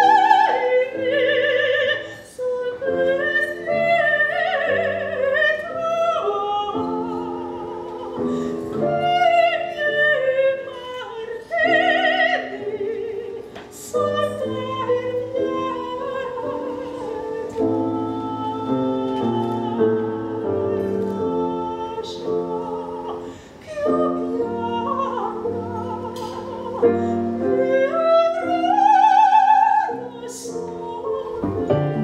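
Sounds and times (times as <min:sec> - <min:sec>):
woman singing opera: 0:00.0 - 0:32.0.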